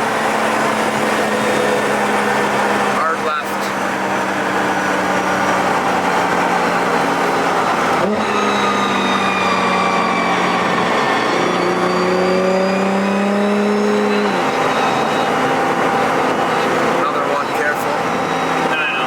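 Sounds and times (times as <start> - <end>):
car engine under load: 0.0 - 19.0
tyre and road noise: 0.0 - 19.0.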